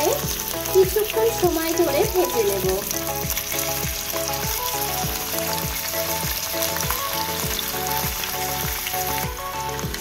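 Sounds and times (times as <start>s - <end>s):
background music with beat: 0.0s - 10.0s
chicken sizzling in oil: 0.0s - 10.0s.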